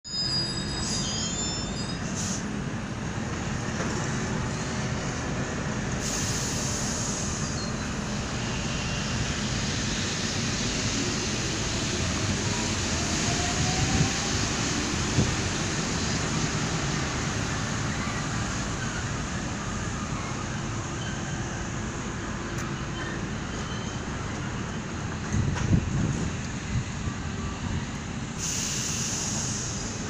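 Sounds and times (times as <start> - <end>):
train low rumble: 0.1 - 30.0.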